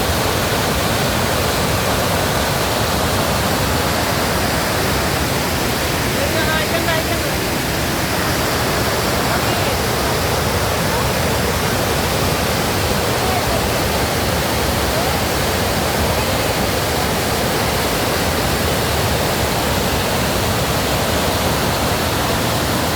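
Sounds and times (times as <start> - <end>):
fast-flowing stream rushing: 0.0 - 22.9.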